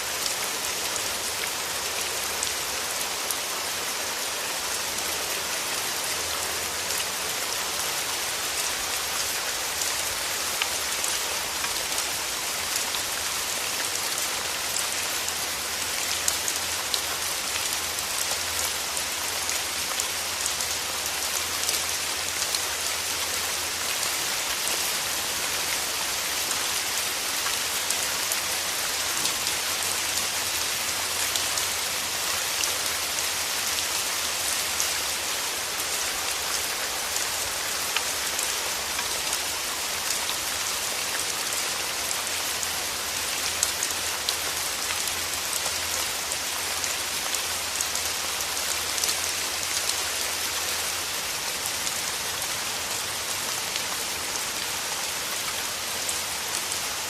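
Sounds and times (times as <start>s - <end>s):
steady rain through trees: 0.0s - 57.0s.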